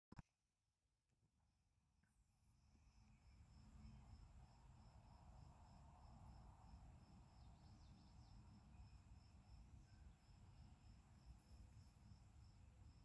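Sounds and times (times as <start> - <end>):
low room hum: 2.0 - 13.0
cricket chirping: 2.1 - 13.0.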